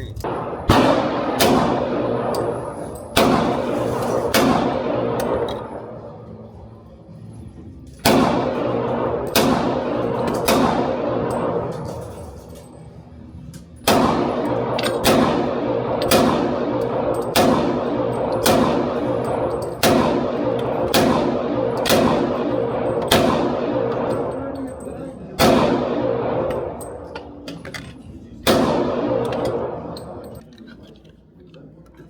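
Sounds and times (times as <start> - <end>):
pistol shots with echo: 0.2 - 6.3, 8.0 - 12.4, 13.8 - 27.5, 28.4 - 30.4.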